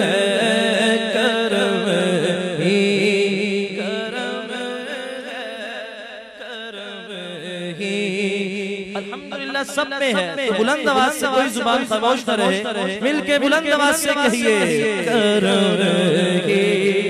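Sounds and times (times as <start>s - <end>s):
man singing ornamented melody: 0.0s - 17.0s.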